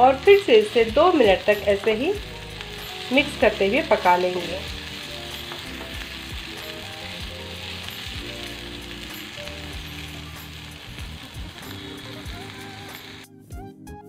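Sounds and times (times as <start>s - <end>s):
food sizzling in oil: 0.0s - 13.3s
soft background music: 0.0s - 14.0s
wooden spatula stirring in pan: 1.0s - 12.3s.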